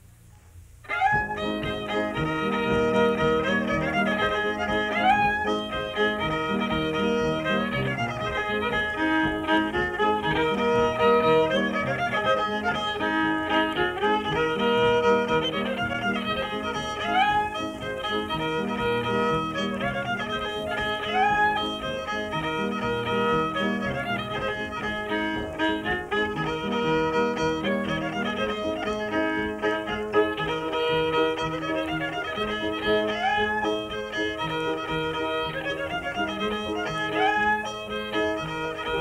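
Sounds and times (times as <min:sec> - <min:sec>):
fiddle music: 0:00.0 - 0:39.0.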